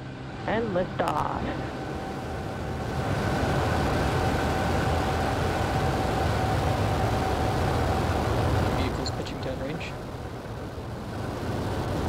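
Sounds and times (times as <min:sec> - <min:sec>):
rocket engine rumble: 0:00.4 - 0:12.0.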